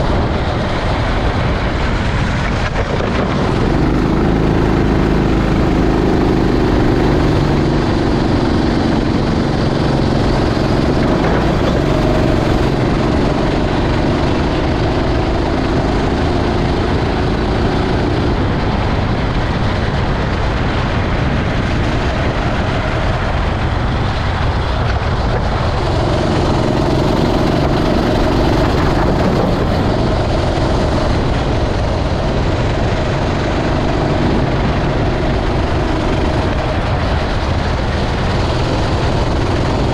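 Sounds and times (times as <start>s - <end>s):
kart engine running: 0.0s - 39.9s
rush of noise: 0.0s - 39.9s.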